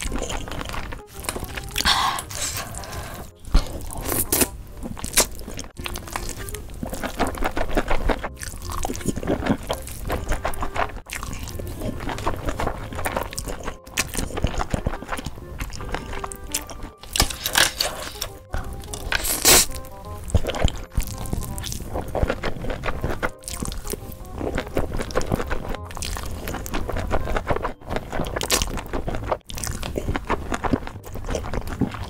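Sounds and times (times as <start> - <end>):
faint background music: 0.0 - 32.0
wet slurping and chewing noodles: 0.0 - 32.0.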